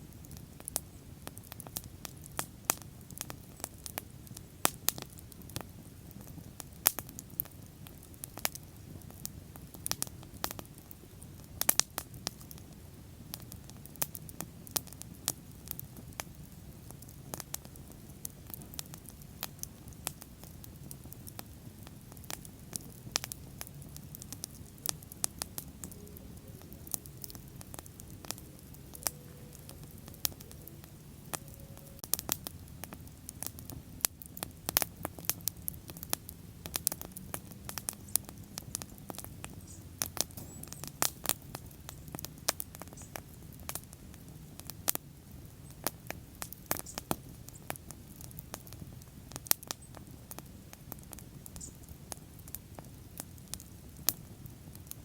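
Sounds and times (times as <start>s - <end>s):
burning wood crackling and popping: 0.0s - 55.0s
low rumble of flames: 0.0s - 55.0s.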